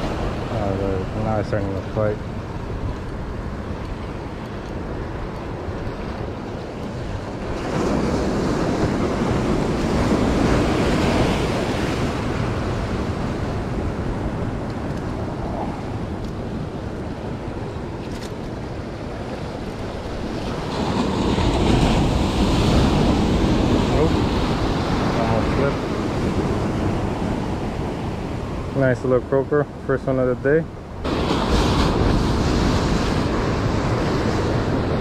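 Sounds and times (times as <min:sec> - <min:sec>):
ocean surf washing over rocks: 0:00.0 - 0:35.0.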